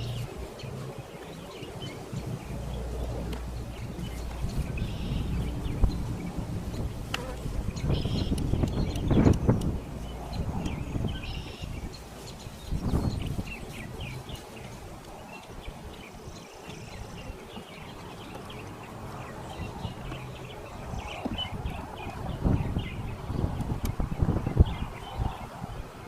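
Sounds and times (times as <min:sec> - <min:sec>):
small birds chirping: 0:00.0 - 0:25.8.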